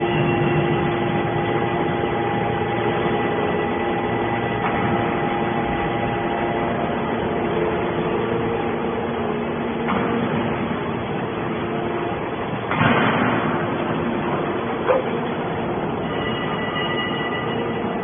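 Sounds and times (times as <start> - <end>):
hydraulic baler humming: 0.0 - 18.0.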